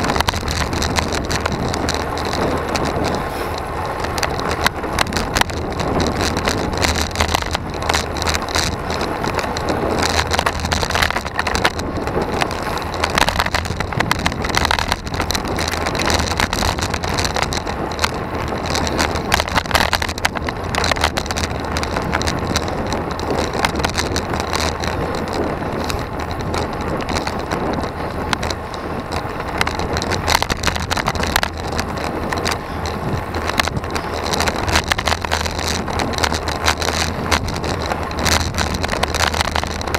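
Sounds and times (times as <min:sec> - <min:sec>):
bike knocks and rattles: 0:00.0 - 0:39.9
road and wind noise: 0:00.0 - 0:39.9.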